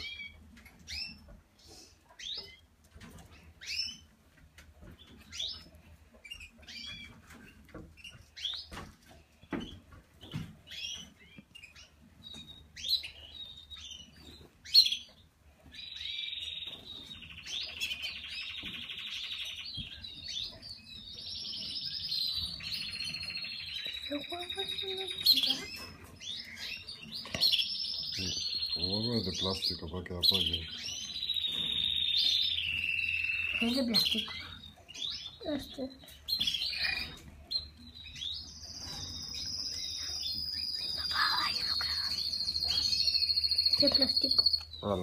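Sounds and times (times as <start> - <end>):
nestlings chirping and chittering: 0.0 - 45.0.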